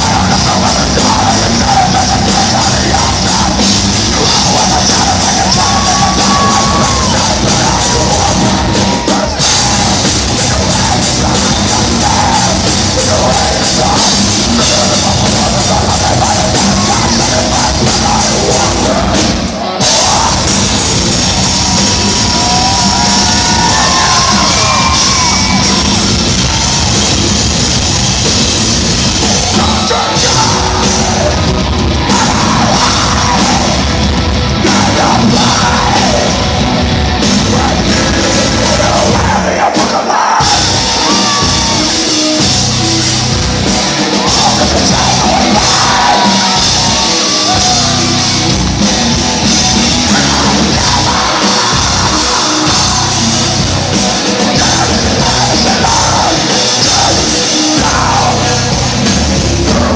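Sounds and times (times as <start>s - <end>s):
drums: 0.0s - 59.9s
heavy metal band playing live: 0.0s - 59.9s
shouted sung vocals: 0.0s - 59.9s.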